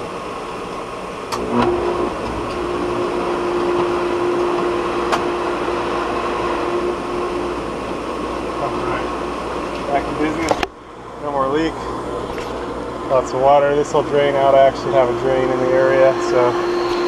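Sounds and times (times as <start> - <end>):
pool pump humming: 0.0 - 17.0.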